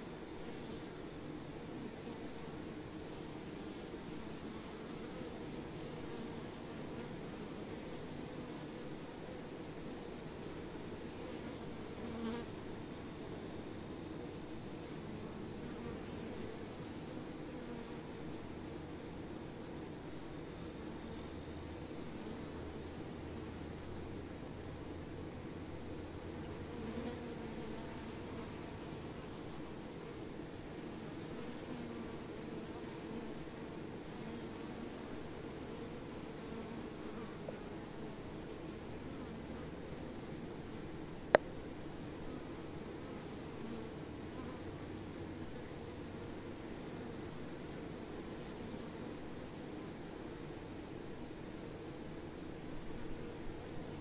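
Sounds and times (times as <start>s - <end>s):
single bee droning close by: 0.0s - 54.0s.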